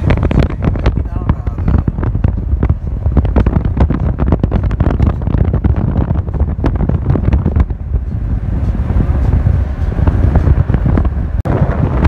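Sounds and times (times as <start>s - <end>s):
car rumbling on road: 0.0s - 12.0s
wind buffeting microphone: 0.0s - 12.0s.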